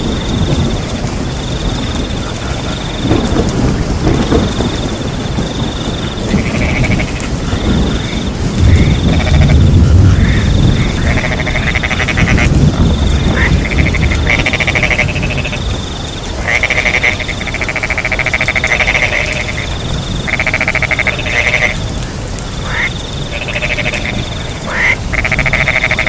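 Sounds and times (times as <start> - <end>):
cricket trill: 0.0 - 26.0
frogs trilling: 0.0 - 26.0
rain hissing: 0.0 - 26.0
thunder rumbling: 0.0 - 26.0.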